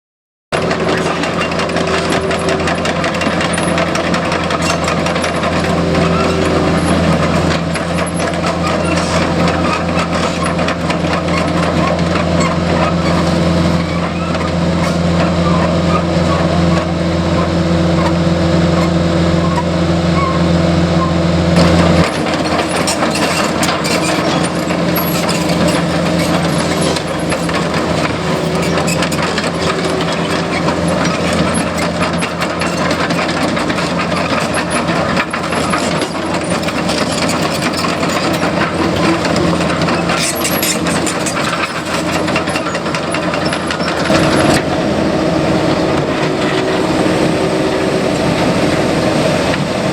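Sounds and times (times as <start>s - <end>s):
clanks knocks and scraping digging: 0.6s - 18.2s, 21.6s - 44.6s
excavator diesel engine running: 0.6s - 49.9s.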